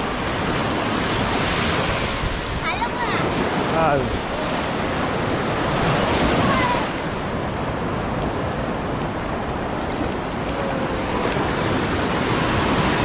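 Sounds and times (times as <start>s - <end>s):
sea surf breaking on beach: 0.0s - 13.0s.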